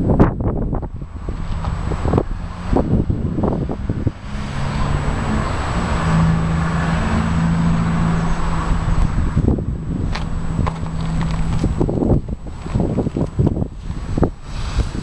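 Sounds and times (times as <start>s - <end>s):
vehicle engine running: 0.0s - 15.0s
wind rumble on microphone: 0.0s - 15.0s.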